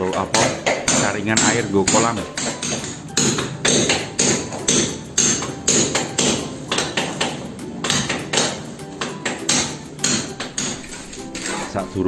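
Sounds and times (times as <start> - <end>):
hammer tapping ceramic tile: 0.0 - 10.9.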